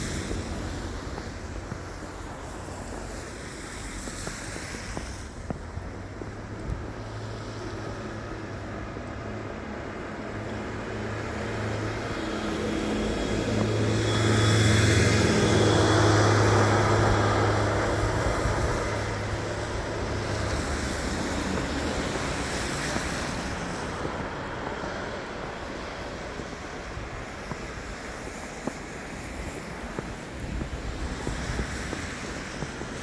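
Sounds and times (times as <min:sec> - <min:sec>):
road noise: 0:00.0 - 0:33.0
vehicle engine hum: 0:05.0 - 0:33.0.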